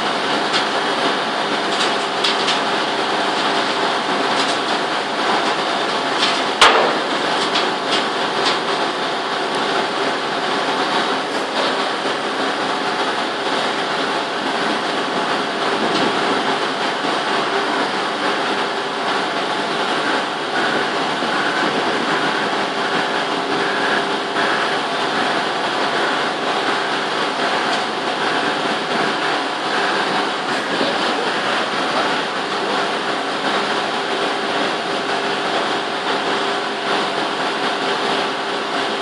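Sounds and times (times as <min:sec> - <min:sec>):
machinery running: 0:00.0 - 0:39.0.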